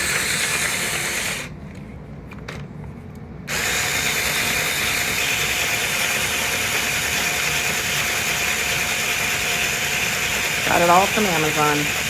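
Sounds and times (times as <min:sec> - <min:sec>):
electric screwdriver motor running: 0:00.0 - 0:01.5, 0:03.5 - 0:12.0.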